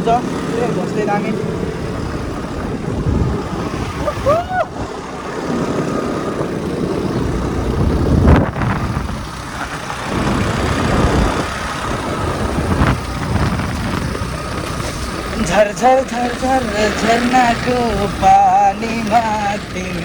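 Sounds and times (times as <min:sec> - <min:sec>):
motorbike engine: 0:00.0 - 0:20.0
wind buffeting microphone: 0:00.0 - 0:20.0.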